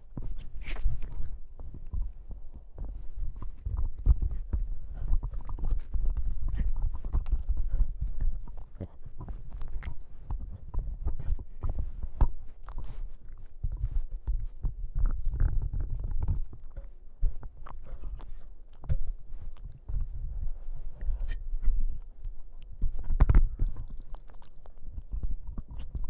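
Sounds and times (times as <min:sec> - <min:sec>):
teeth clicking on microphone: 0:00.0 - 0:26.0.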